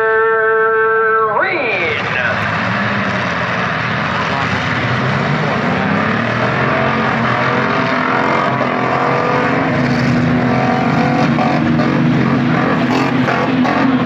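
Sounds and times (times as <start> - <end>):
many engines revving: 1.4 - 14.0.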